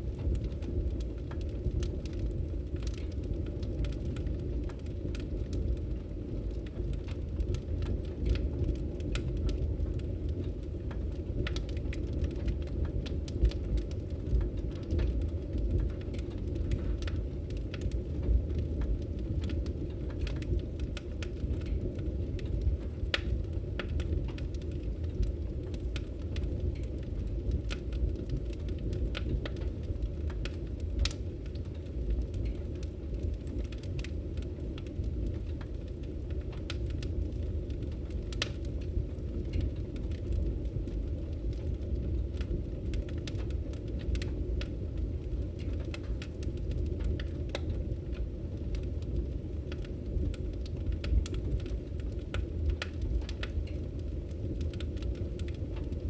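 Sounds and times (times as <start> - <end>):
fire crackling with pops: 0.0 - 56.0
low rumble of flames: 0.0 - 56.0.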